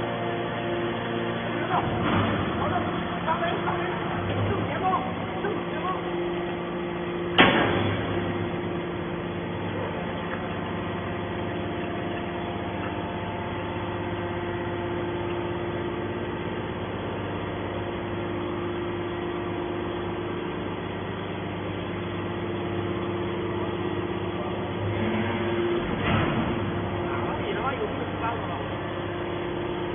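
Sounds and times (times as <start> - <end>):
baler machine humming: 0.0 - 29.9.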